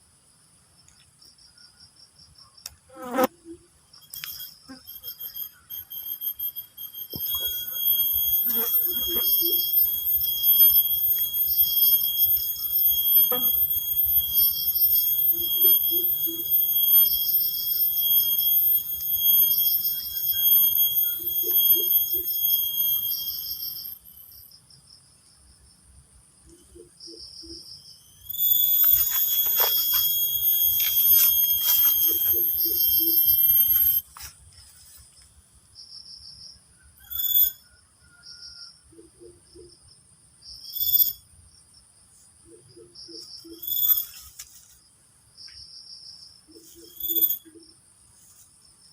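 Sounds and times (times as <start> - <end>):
insect high-pitched drone: 0.0 - 48.9
pulsing insect chirp: 0.0 - 48.9.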